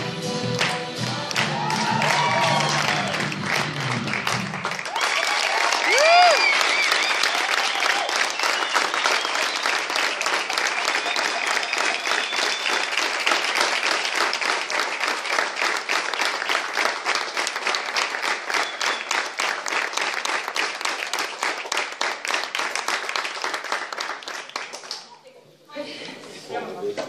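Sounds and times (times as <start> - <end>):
audience applauding: 0.6 - 25.1.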